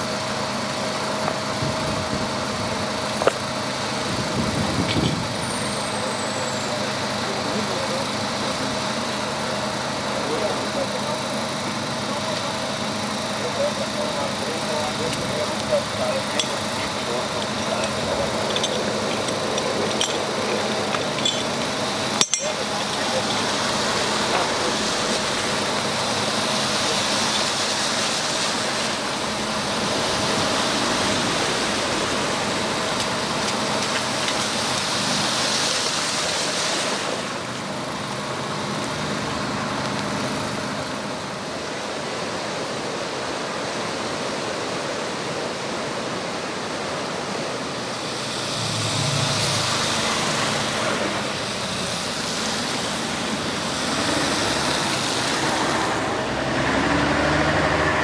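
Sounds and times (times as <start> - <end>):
heavy rain: 0.0 - 58.0
rushing floodwater: 0.0 - 58.0
vehicles driving through water: 0.0 - 58.0.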